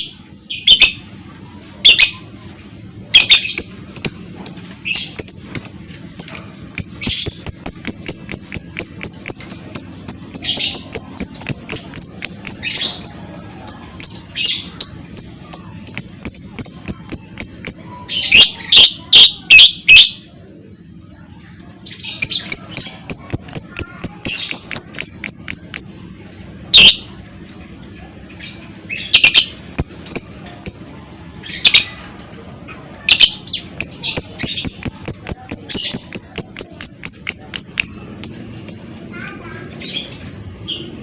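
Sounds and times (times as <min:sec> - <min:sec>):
bird high chirping trill: 0:00.0 - 0:02.4, 0:03.0 - 0:20.3, 0:21.1 - 0:27.2, 0:28.0 - 0:32.1, 0:32.7 - 0:41.0.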